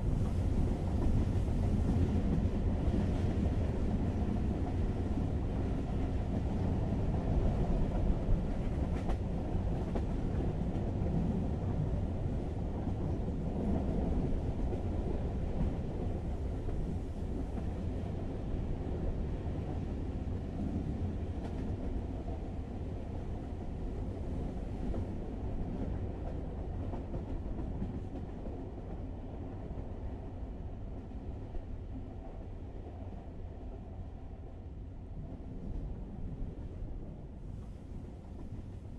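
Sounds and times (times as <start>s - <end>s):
train rumble inside carriage: 0.0s - 38.9s.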